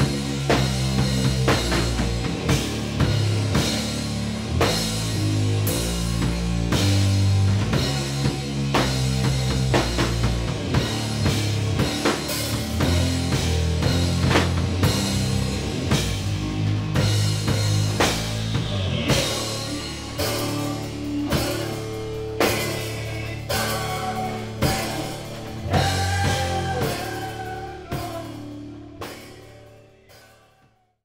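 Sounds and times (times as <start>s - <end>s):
fuzzed guitars holding low chords: 0.0s - 30.1s
drum kit: 0.0s - 30.9s.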